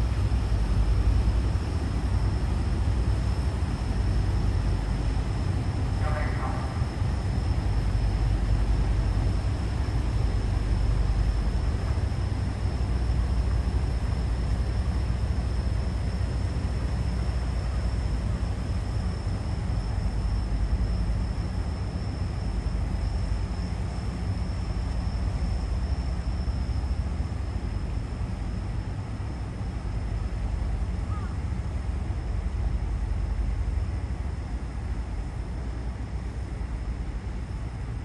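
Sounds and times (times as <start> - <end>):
ferry engines droning: 0.0 - 38.0.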